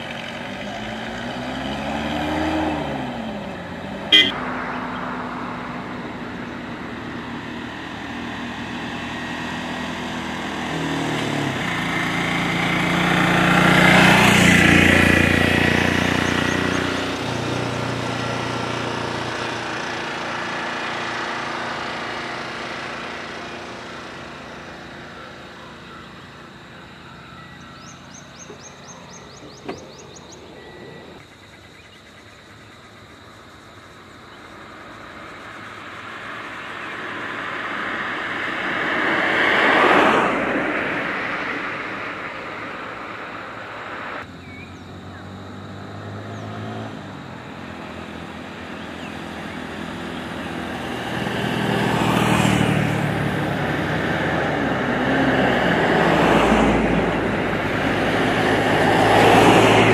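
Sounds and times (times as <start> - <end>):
small engine driving past: 0.0 - 59.9.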